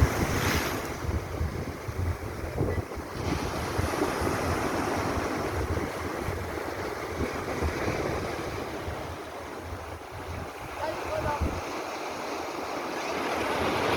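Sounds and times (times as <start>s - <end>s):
wind buffeting microphone: 0.0s - 11.8s
waves washing onto beach: 0.0s - 13.9s.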